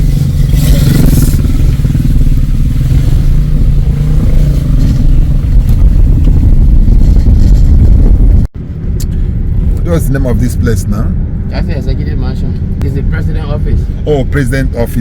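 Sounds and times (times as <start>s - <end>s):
car rumbling over rough road: 0.0s - 15.0s.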